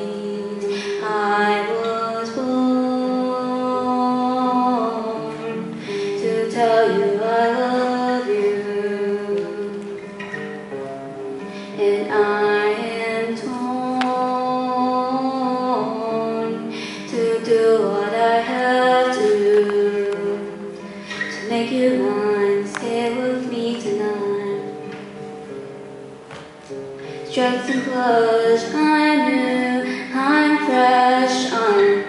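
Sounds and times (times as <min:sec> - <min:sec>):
woman singing: 0:00.0 - 0:10.1, 0:11.7 - 0:25.0, 0:27.2 - 0:32.0
acoustic guitar: 0:00.0 - 0:32.0.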